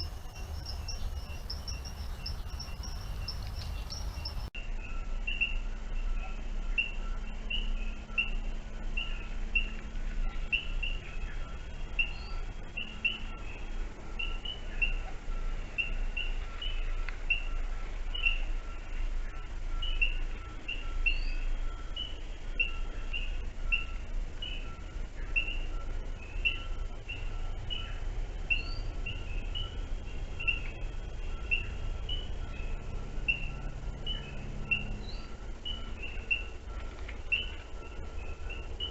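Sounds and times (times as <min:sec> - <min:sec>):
bird chirping: 0:00.0 - 0:05.6, 0:09.0 - 0:38.9
insect drone: 0:00.0 - 0:38.9
low background rumble: 0:00.0 - 0:38.9.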